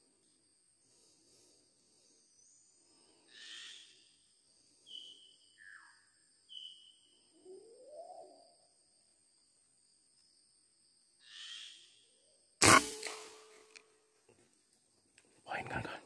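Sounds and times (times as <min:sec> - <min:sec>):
high insect drone: 0:00.0 - 0:13.7.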